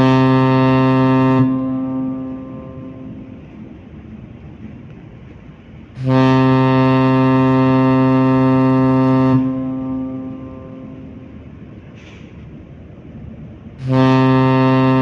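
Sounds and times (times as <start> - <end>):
deep ship horn blast: 0.0 - 15.0.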